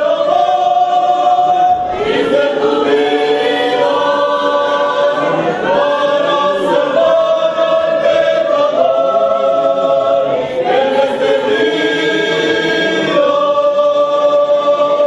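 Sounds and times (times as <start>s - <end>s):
choir of young voices singing: 0.0s - 15.0s.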